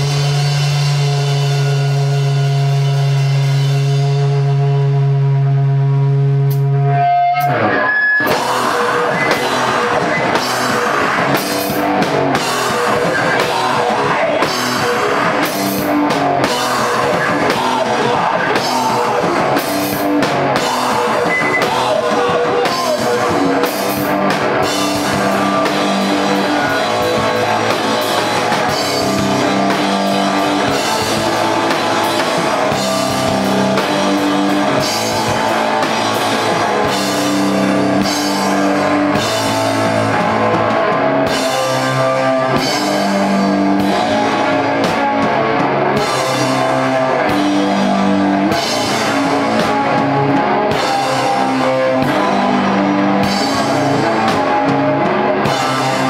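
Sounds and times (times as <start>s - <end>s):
drum kit: 0.0s - 56.0s
electric guitar: 0.0s - 56.0s
rock band playing: 0.0s - 56.0s.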